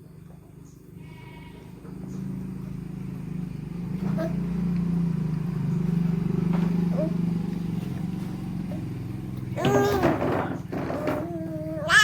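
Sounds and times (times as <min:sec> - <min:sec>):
engine running steadily: 0:01.6 - 0:12.0.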